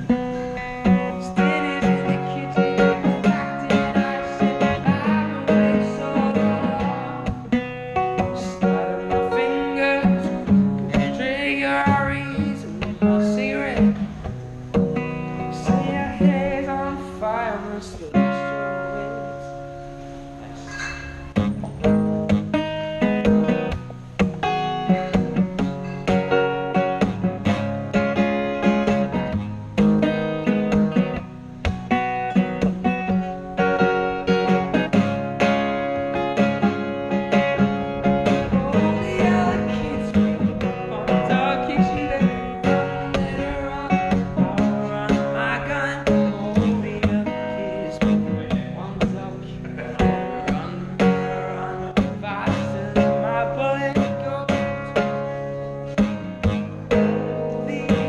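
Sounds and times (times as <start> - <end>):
acoustic guitar strummed: 0.0 - 58.0.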